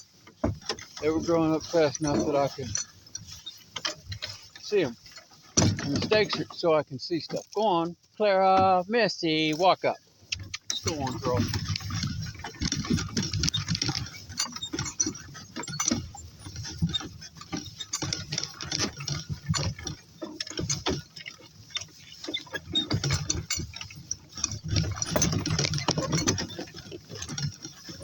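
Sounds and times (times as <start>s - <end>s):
cart rattling and knocking: 0.0s - 28.0s.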